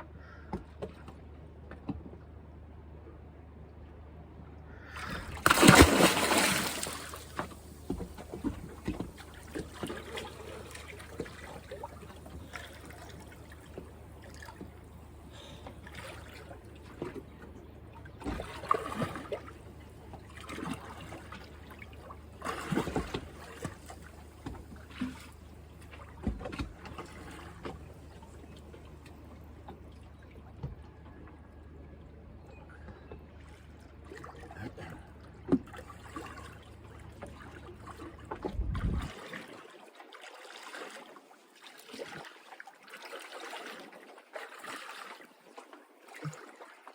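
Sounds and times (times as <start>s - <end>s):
water splashing and trickling: 5.0s - 30.7s, 33.3s - 46.9s.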